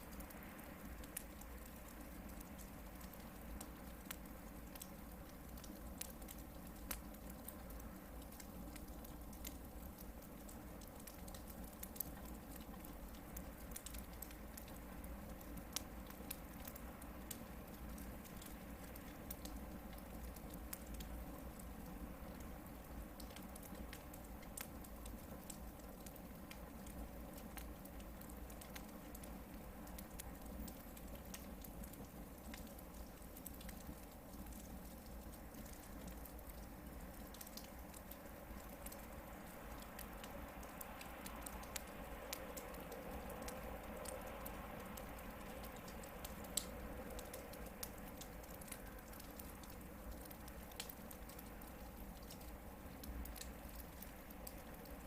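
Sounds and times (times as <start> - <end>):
campfire hissing: 0.0 - 55.0
crackles and pops from logs: 0.0 - 55.0.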